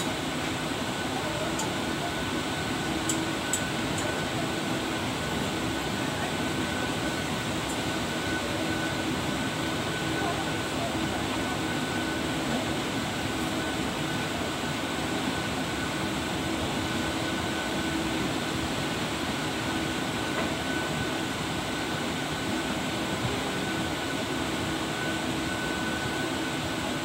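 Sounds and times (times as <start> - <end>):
thin steady whine: 0.0 - 27.0.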